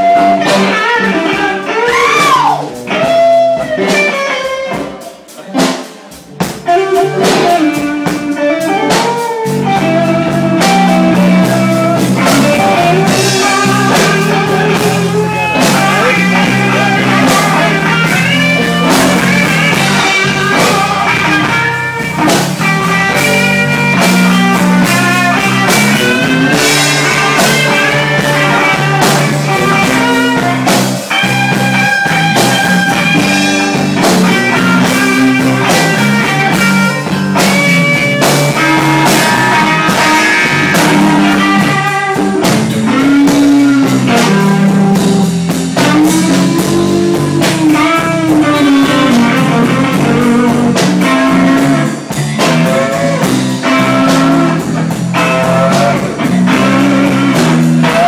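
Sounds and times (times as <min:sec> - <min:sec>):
electric guitar bending notes: 0:00.0 - 0:58.0
live blues band: 0:00.0 - 0:58.0.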